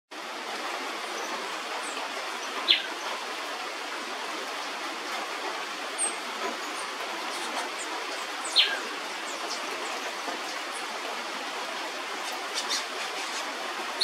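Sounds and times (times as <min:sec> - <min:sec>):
rain on foliage: 0:00.1 - 0:14.0.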